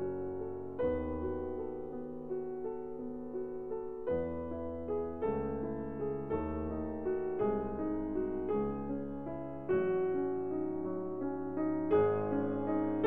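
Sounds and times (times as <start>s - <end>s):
piano playing held chords: 0.0s - 13.0s.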